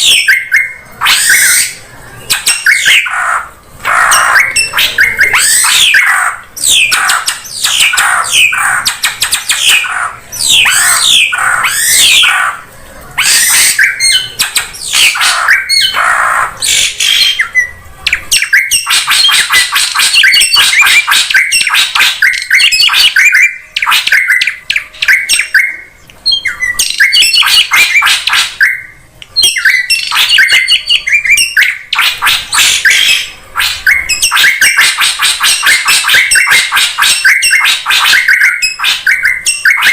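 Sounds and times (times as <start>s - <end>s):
bird whistles and harsh chatter: 0.0s - 39.9s.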